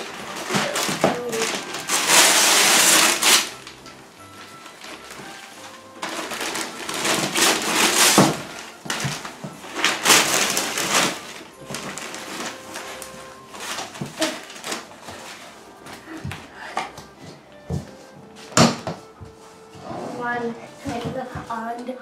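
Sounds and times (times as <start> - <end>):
wrapping paper tearing and rustling: 0.0 - 21.7.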